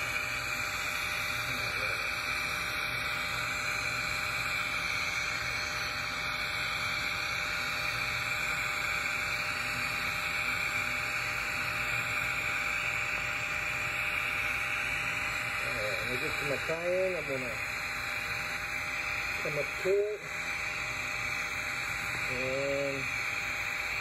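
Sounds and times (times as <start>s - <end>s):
welding arc hissing: 0.0s - 24.0s.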